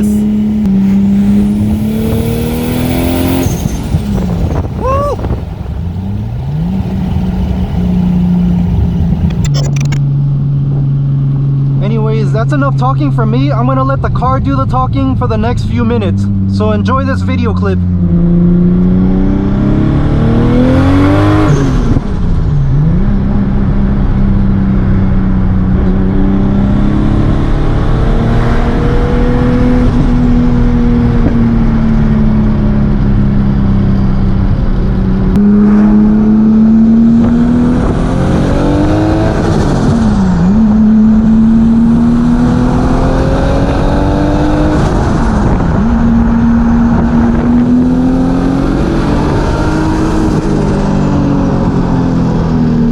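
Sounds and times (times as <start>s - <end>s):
car engine under load: 0.0s - 52.9s.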